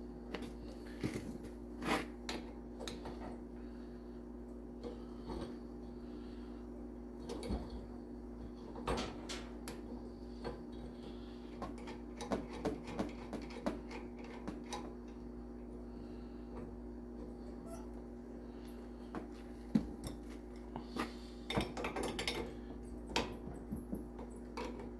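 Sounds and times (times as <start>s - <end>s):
steady low hum: 0.0s - 12.3s, 13.9s - 24.9s.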